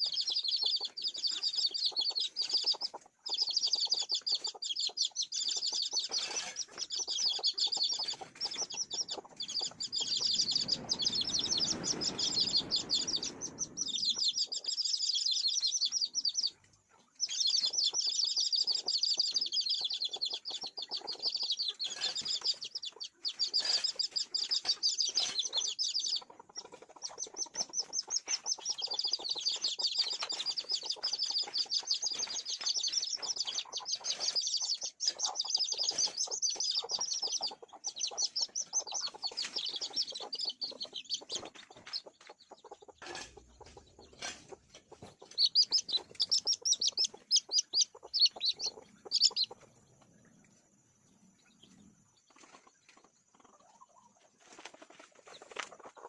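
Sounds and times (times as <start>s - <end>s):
chickens clucking: 0.0s - 56.0s
chicks peeping: 0.0s - 56.0s.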